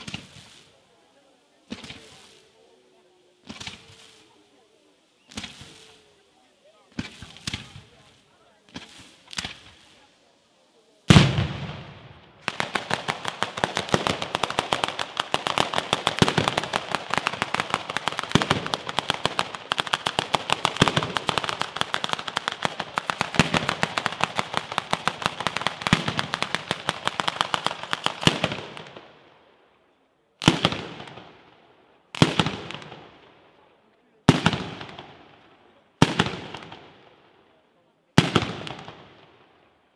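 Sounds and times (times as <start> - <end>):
firecrackers going off: 0.0 - 29.2, 30.3 - 39.9.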